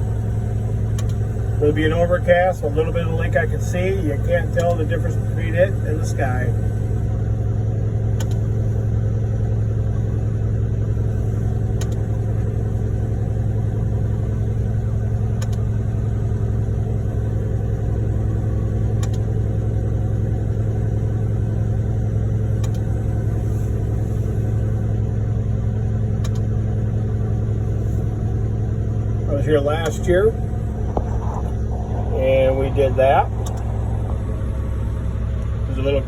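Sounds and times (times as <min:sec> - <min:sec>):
diesel truck engine droning: 0:00.0 - 0:36.0.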